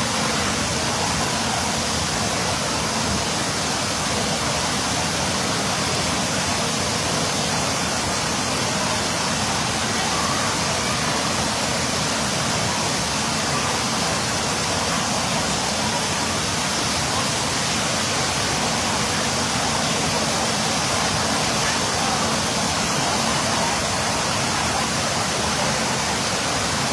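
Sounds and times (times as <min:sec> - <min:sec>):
shower water splashing into pool: 0:00.0 - 0:26.9.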